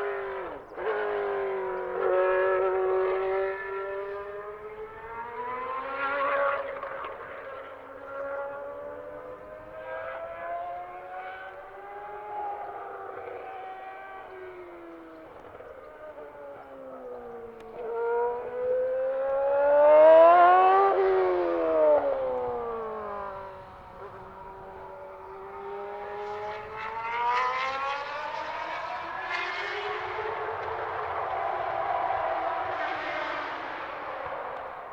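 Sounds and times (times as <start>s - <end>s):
racing car engine revving: 0.0s - 34.9s.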